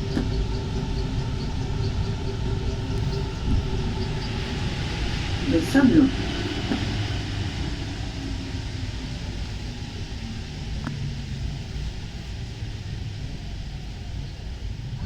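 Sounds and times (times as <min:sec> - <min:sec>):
train rumbling on rubber tyres: 0:00.0 - 0:15.0.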